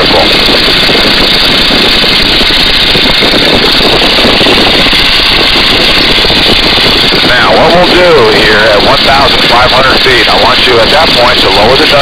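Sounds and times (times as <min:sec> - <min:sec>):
radial engine and propeller: 0:00.0 - 0:12.0
wind rushing: 0:00.0 - 0:12.0.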